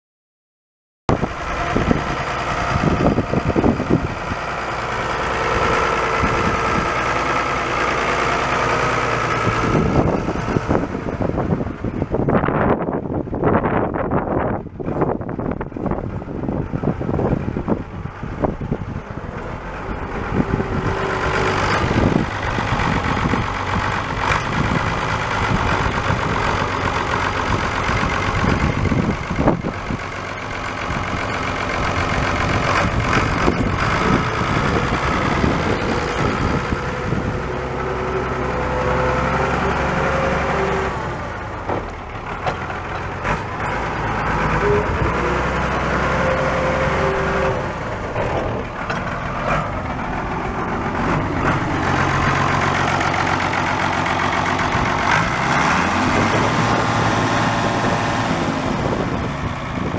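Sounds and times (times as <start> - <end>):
tractor diesel engine running: 1.1 - 59.9.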